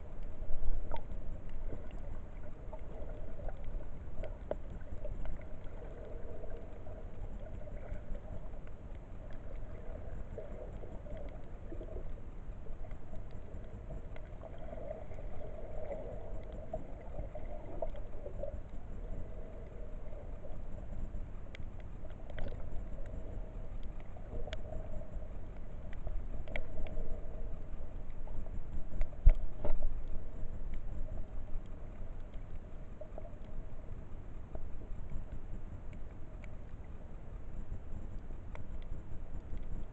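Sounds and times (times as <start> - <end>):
underwater rumble of moving water: 0.0 - 39.9
wavering midrange hum: 0.0 - 39.9.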